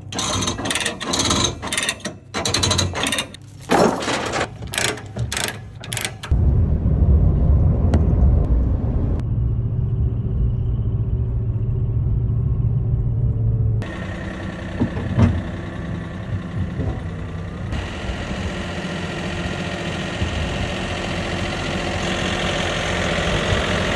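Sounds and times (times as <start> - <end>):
engine and road rumble: 0.0 - 23.9
truck idling: 4.3 - 23.9.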